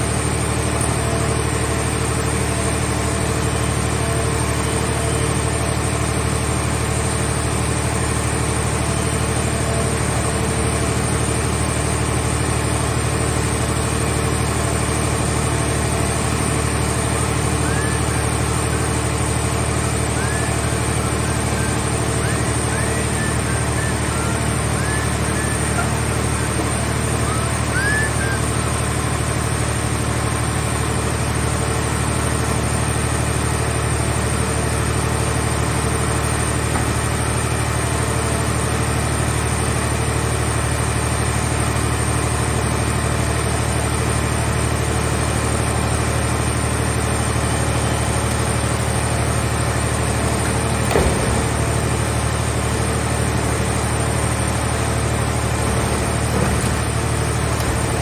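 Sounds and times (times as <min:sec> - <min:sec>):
baler engine and hydraulics running: 0:00.0 - 0:58.0.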